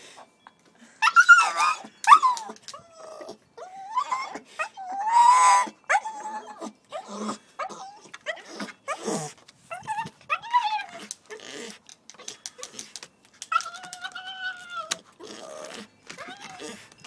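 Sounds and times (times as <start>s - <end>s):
puppy whining and yelping: 0.1s - 17.0s.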